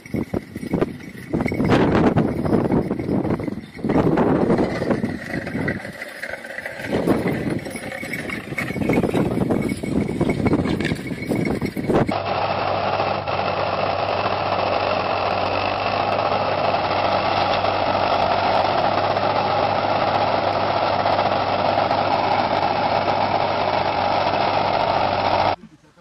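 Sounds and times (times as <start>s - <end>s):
ploughing machine engine running: 0.0s - 25.6s.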